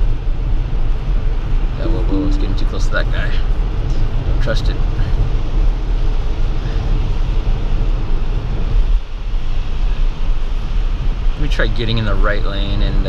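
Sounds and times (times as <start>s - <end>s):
low road rumble: 0.0s - 13.0s.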